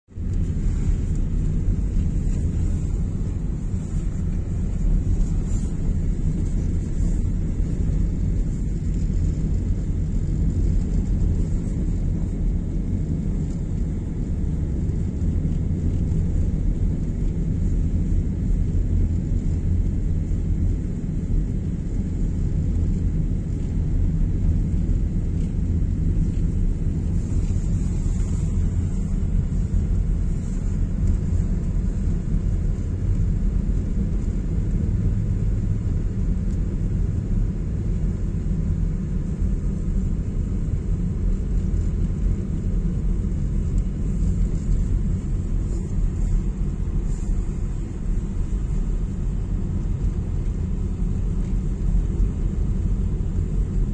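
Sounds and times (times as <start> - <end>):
car engine and tyre noise: 0.0 - 53.9.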